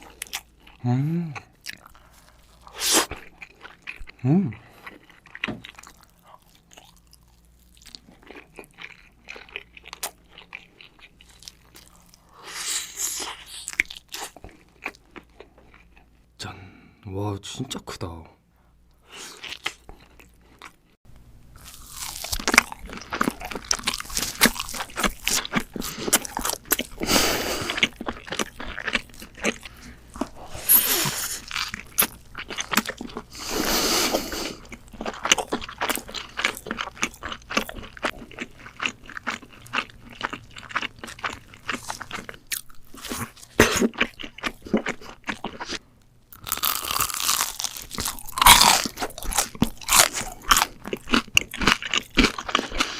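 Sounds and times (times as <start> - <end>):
person chewing crisp food: 0.0 - 16.2, 19.0 - 21.0, 21.6 - 52.9.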